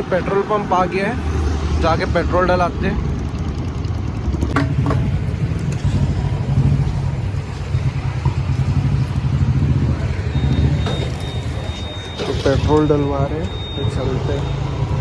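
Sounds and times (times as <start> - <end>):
road traffic noise: 0.0 - 15.0
vehicle engine droning: 0.0 - 15.0.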